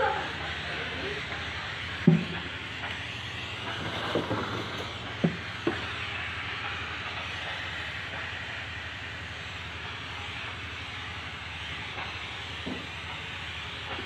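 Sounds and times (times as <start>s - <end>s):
steam mop hissing: 0.0s - 14.0s.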